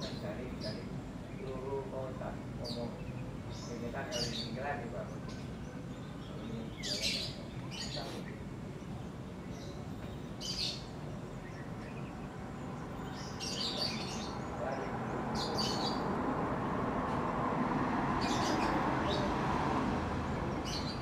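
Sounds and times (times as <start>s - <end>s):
birds chirping: 0.0s - 21.0s
outdoor background noise: 0.0s - 21.0s.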